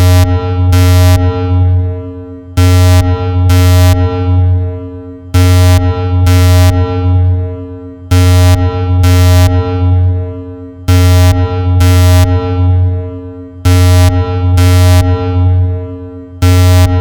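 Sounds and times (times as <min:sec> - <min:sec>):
synthesized tone: 0:00.0 - 0:17.0.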